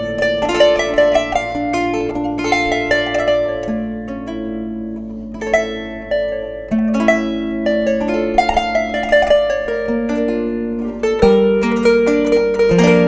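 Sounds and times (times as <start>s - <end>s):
plucked zither playing: 0.0s - 13.0s.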